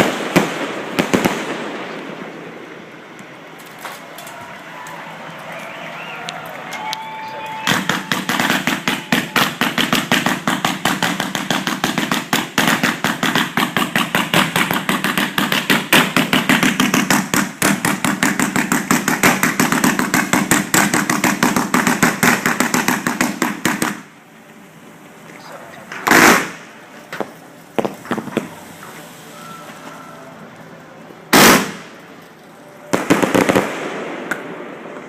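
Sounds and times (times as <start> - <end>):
fireworks barrage: 0.0 - 35.0.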